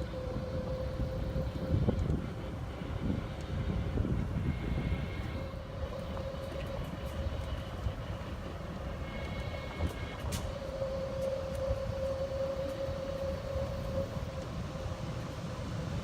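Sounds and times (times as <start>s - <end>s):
motor whine: 0.0s - 16.0s.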